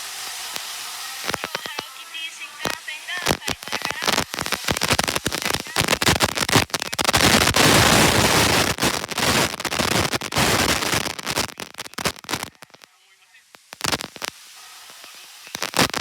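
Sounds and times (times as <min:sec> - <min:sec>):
sharp pops and crackles: 0:00.0 - 0:01.9, 0:02.6 - 0:12.9, 0:13.5 - 0:16.0.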